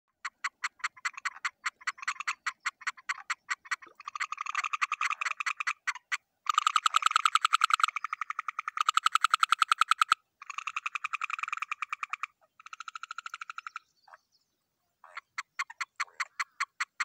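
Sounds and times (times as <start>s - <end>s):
frog calling in clicking pulses: 0.1s - 14.2s, 15.0s - 17.0s.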